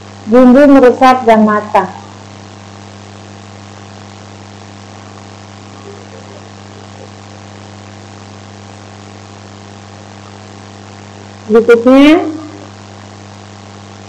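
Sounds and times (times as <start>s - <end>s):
background hiss: 0.0s - 14.0s
electrical hum: 0.0s - 14.0s.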